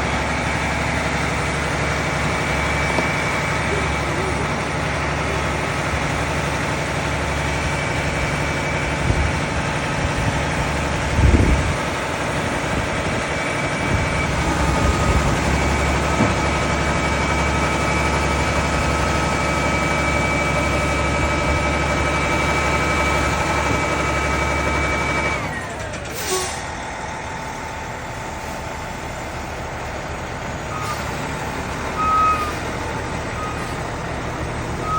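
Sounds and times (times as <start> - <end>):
garbage truck engine running: 0.0 - 34.9.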